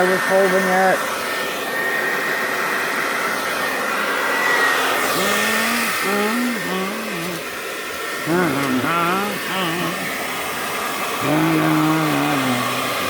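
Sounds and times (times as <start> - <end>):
blow-dryer running: 0.0 - 13.0.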